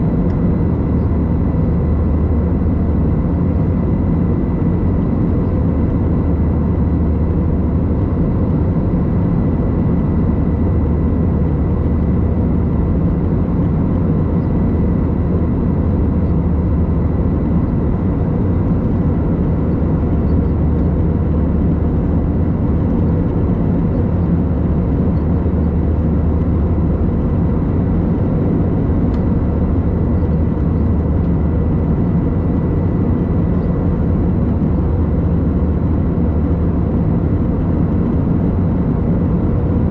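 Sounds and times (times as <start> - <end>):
jet engine cabin drone: 0.0 - 39.9.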